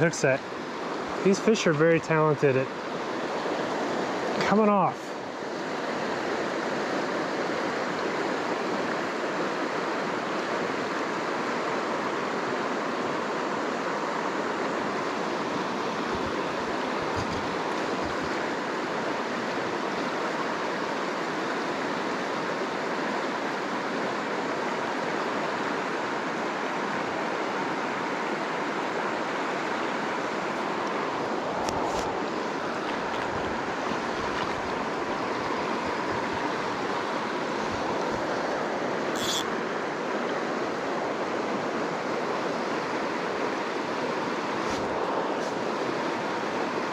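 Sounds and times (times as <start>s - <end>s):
creek water rushing over rapids: 0.0s - 46.9s.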